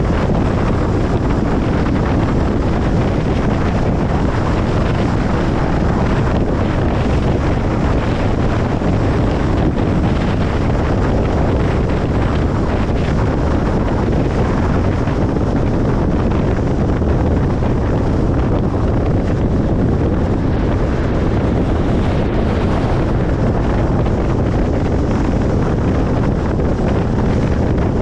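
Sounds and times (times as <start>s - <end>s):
car road noise: 0.0s - 28.0s.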